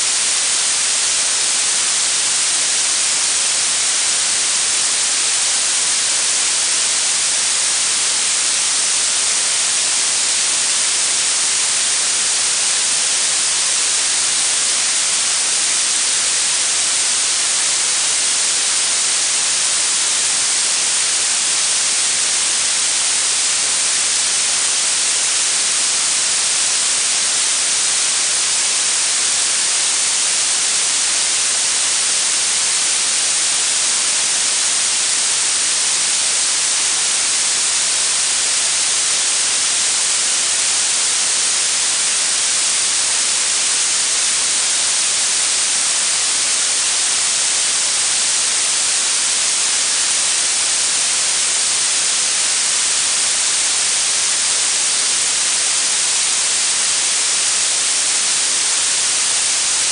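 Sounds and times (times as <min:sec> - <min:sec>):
blue noise hiss: 0:00.0 - 0:58.6.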